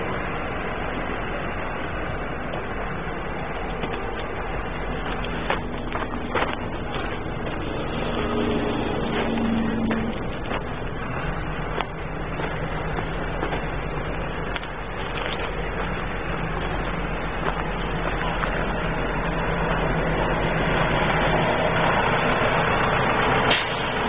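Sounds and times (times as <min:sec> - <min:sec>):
low hum: 0:00.0 - 0:24.0
road traffic rumble: 0:00.0 - 0:24.0.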